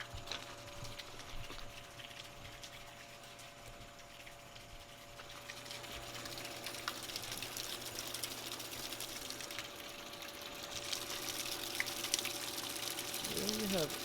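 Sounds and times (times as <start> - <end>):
faint steady hum: 0.0 - 14.0
floodwater running and splashing: 0.0 - 14.0
water dripping: 0.0 - 14.0.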